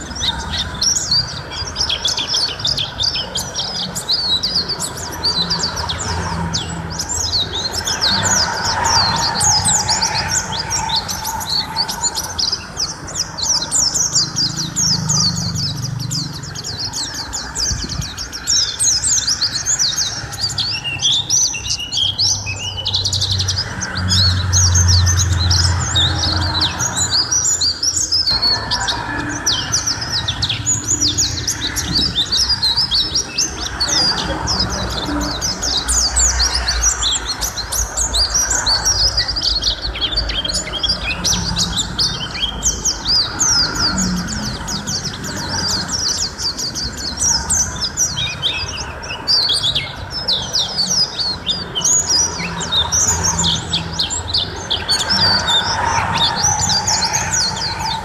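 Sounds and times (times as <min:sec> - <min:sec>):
small bird chirping and trilling: 0:00.0 - 0:58.0.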